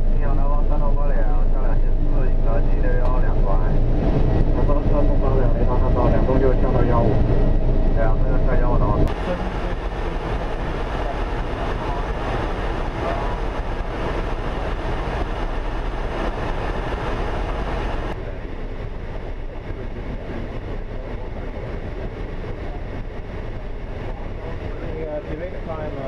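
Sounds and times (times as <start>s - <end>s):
airflow and engine rush: 0.0s - 26.0s.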